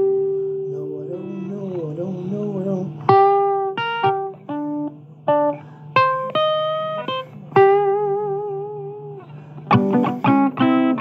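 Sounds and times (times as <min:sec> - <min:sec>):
blues guitar plucked notes: 0:00.0 - 0:11.0.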